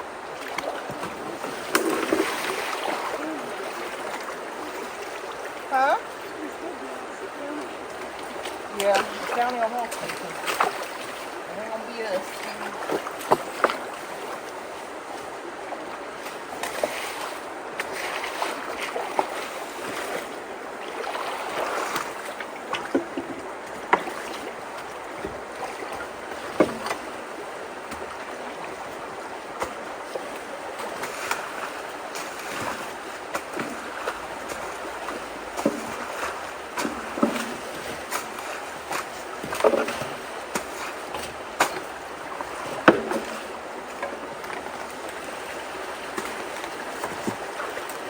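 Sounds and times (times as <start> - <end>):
creek water flowing: 0.0 - 48.0.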